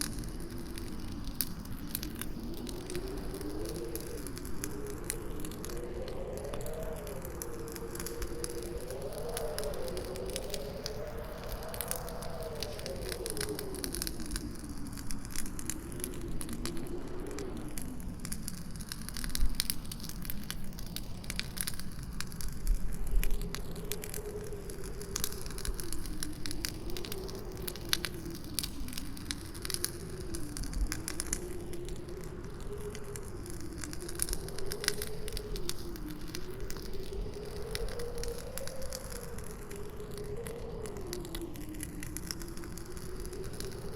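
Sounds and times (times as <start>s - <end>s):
campfire crackling: 0.0s - 43.9s
howling wind: 0.0s - 43.9s.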